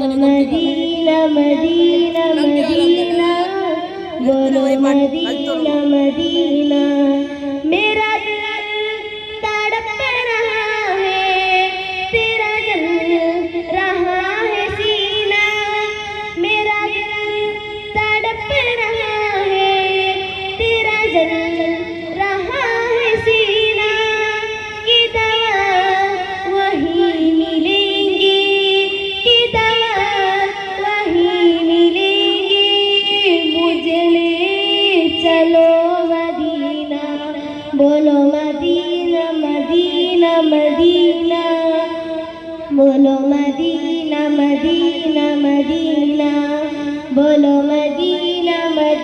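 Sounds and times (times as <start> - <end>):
boy singing devotional song: 0.0 - 49.0.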